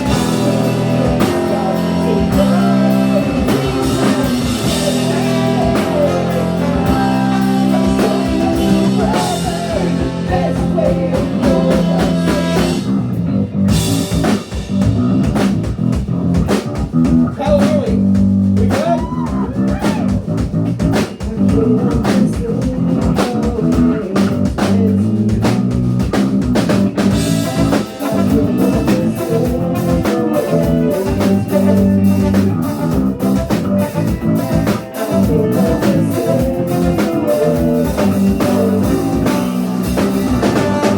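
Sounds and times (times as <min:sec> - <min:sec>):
ska punk band playing live: 0:00.0 - 0:40.9.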